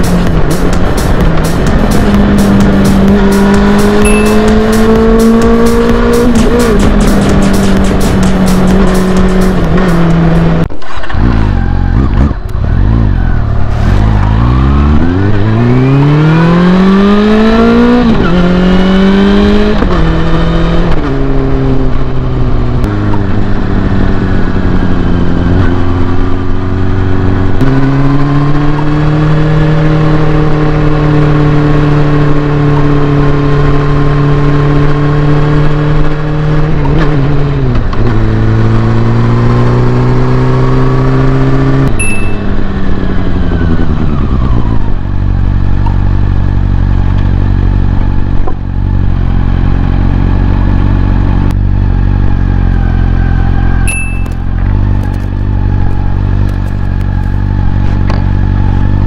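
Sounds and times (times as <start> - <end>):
motorcycle accelerating through gears: 0.0 - 59.0.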